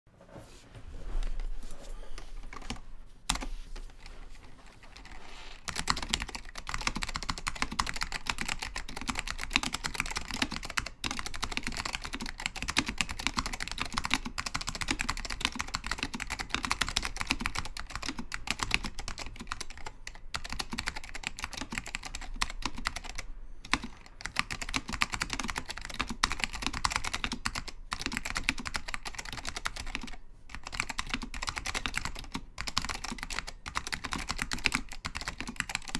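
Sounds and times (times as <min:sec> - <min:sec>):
mechanical keyboard typing: 0:02.5 - 0:04.0, 0:04.7 - 0:35.9.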